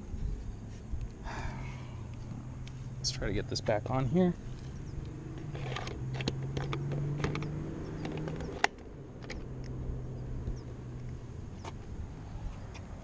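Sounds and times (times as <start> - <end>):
steady low hum: 0.0 - 6.9, 7.5 - 13.0.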